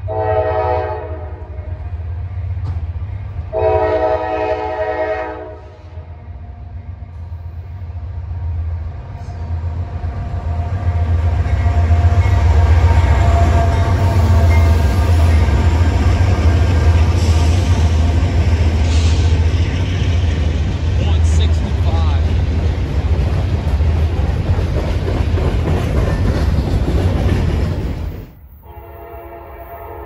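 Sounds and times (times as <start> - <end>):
train passing rumble: 0.0 - 30.0.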